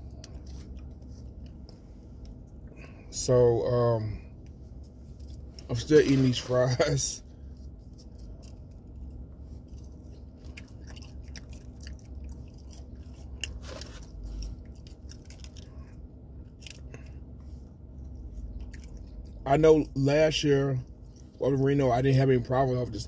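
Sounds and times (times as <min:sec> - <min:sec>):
person chewing french fries: 0:00.0 - 0:03.1, 0:04.0 - 0:19.6, 0:20.8 - 0:21.5
low steady hum: 0:00.0 - 0:23.0.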